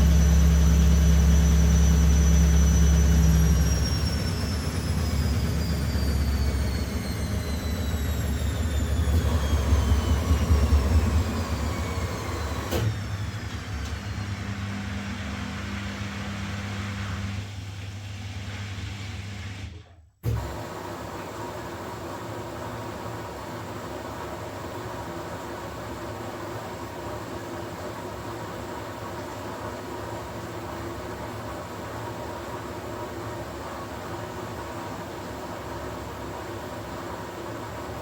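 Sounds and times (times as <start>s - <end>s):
washing machine spinning down: 0.0s - 38.0s.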